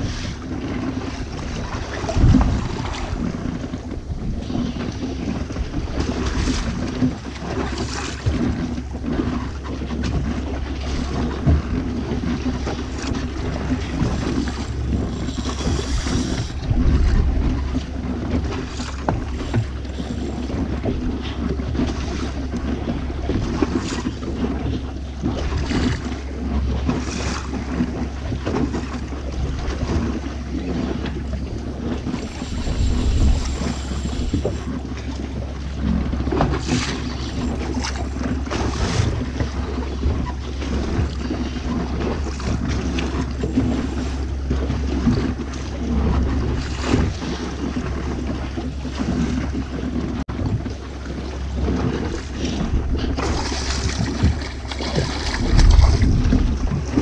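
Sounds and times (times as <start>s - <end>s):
boat motor running: 0.0s - 57.0s
water splashing against hull: 0.0s - 57.0s
wind buffeting microphone: 0.0s - 57.0s.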